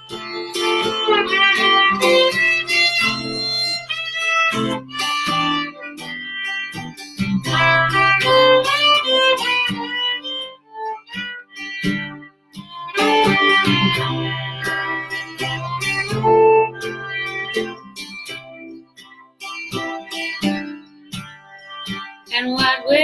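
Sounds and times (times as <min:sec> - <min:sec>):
fiddle playing quick melody: 0:00.0 - 0:18.8
strummed acoustic guitar: 0:00.0 - 0:23.0.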